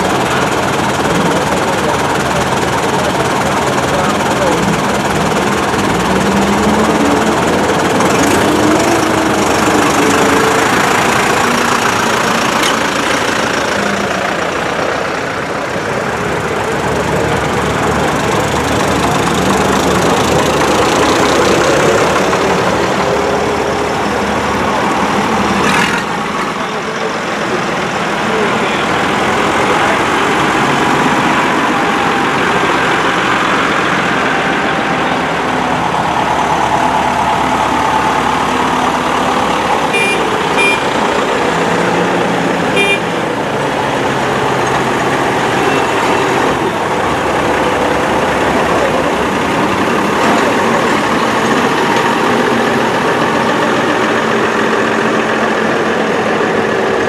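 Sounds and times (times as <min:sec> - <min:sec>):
tractor diesel engines: 0:00.0 - 0:57.0.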